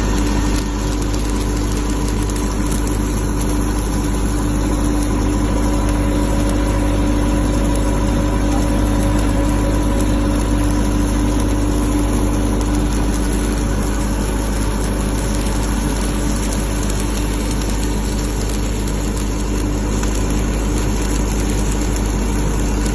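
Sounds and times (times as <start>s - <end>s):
generator engine humming: 0.0s - 22.9s.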